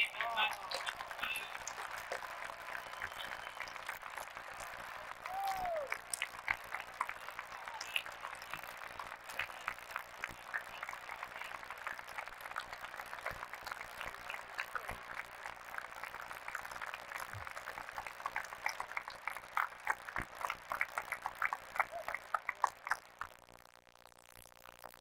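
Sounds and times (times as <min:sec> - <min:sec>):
crowd clapping: 0:00.0 - 0:23.5.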